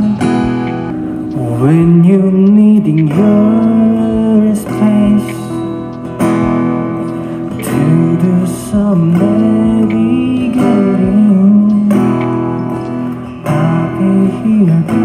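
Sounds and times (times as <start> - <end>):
man singing into microphone: 0.0 - 0.7, 1.3 - 5.8, 7.6 - 15.0
acoustic guitar strumming: 0.0 - 15.0.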